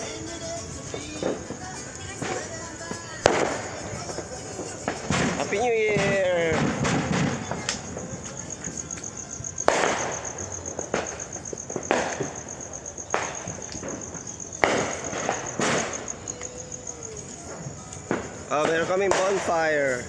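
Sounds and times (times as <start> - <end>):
firecrackers banging: 0.0 - 20.0.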